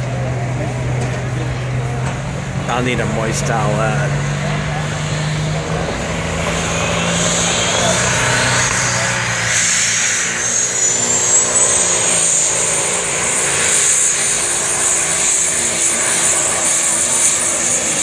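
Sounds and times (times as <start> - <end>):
diesel truck engine at full throttle: 0.0 - 18.0
high whine: 0.0 - 18.0.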